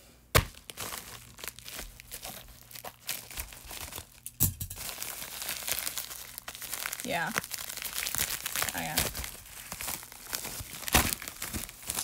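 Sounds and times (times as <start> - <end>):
plastic mailer and tissue paper rustling: 0.5 - 12.0.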